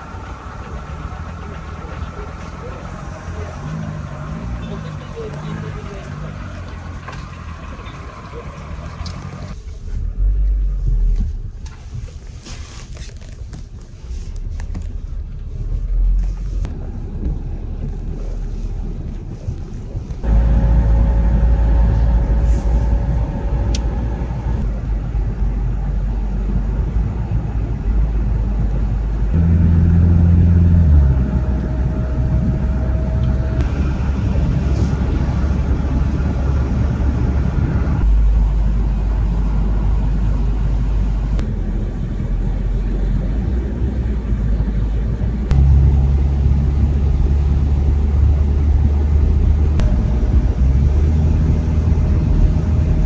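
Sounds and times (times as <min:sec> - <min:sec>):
engine and tyre rumble: 0:00.0 - 0:53.0.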